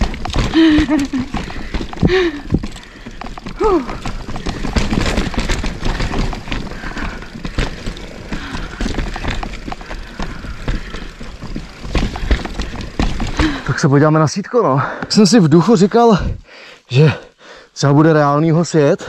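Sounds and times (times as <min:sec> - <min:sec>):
bike clattering over rocks: 0:00.0 - 0:16.4.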